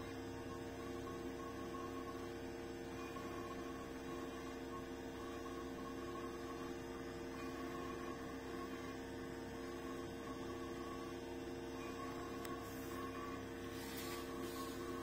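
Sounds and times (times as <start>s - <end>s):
turntable motor humming: 0.0s - 15.0s
high motor whine: 2.9s - 15.0s.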